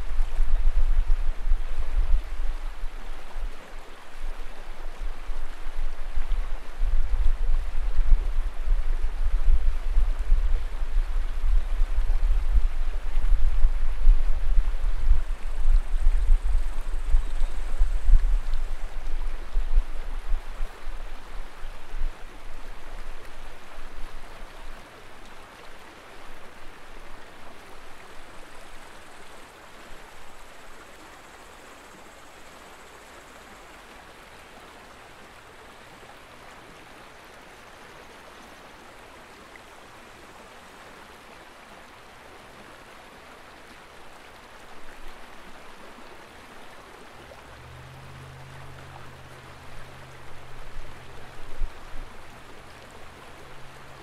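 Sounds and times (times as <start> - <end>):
low steady hum: 0.0 - 42.7, 43.9 - 54.0
river water rushing: 0.0 - 54.0.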